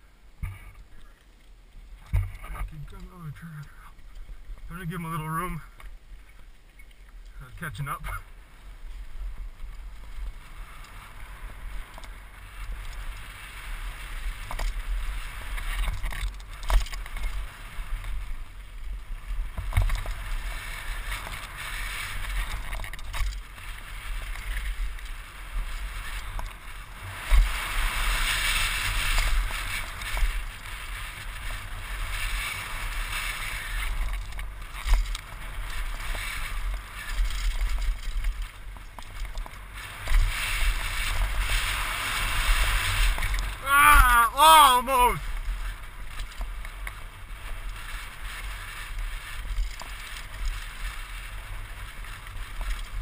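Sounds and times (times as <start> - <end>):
wind and tyre noise: 0.0 - 44.0, 45.2 - 53.0.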